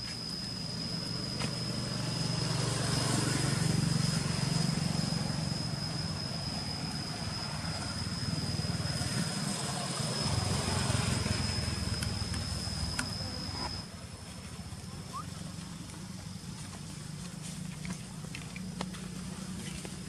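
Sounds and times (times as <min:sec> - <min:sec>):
thin high-pitched whine: 0:00.0 - 0:20.0.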